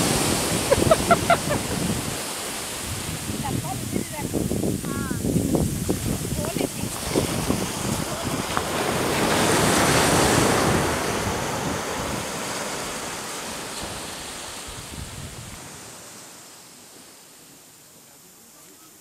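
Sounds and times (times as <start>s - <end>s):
wind buffeting microphone: 0.0s - 16.0s
waves washing up beach: 0.0s - 19.0s.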